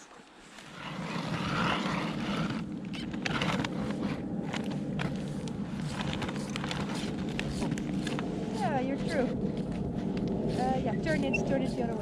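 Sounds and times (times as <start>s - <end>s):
ice auger grinding hum: 0.5s - 12.0s.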